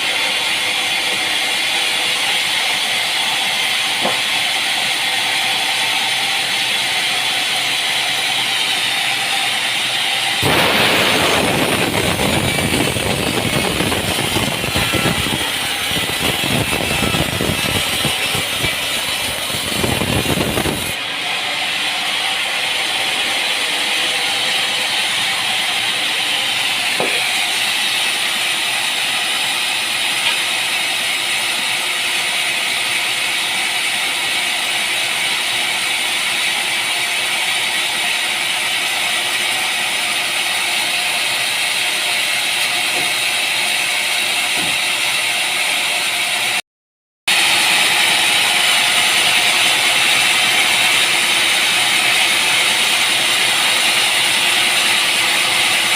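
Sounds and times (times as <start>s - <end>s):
loud machine running: 0.0s - 46.6s, 47.3s - 55.9s.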